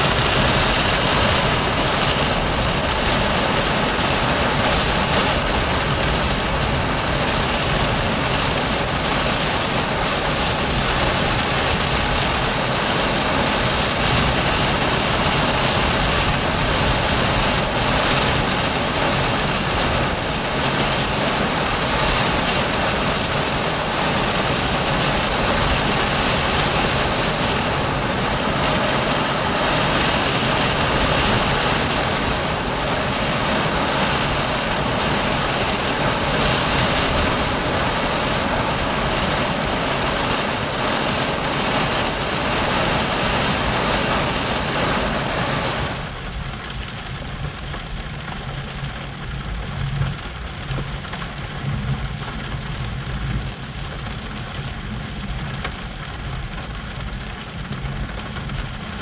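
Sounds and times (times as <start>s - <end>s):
heavy rain pounding a car: 0.0s - 59.0s.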